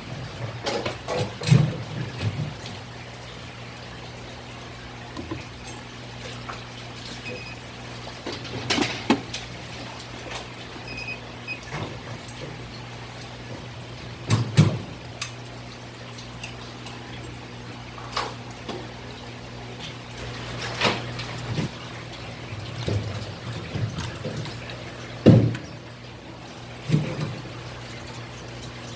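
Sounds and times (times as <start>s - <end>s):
water running and trickling: 0.0s - 28.9s.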